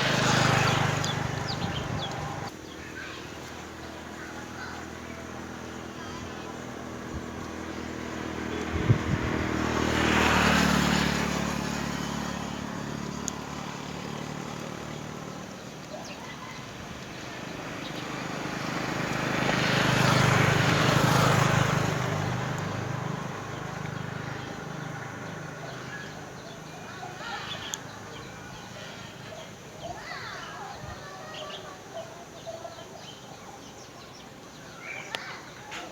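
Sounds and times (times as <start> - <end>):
motor vehicles passing by: 0.0 - 35.9.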